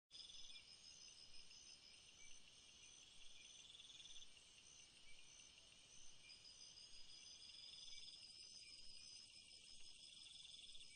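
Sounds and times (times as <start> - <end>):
insects chirring chorus: 0.2 - 10.9.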